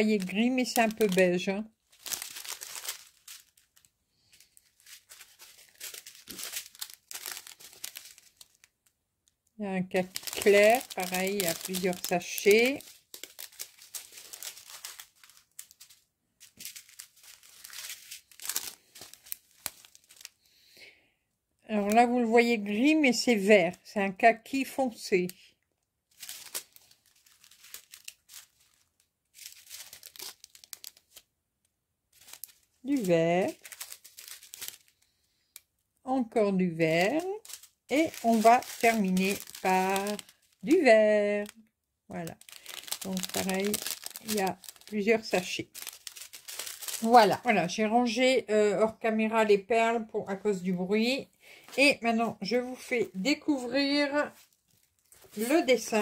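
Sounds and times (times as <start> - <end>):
plastic sachets crinkling: 0.0 - 21.0, 21.8 - 56.0.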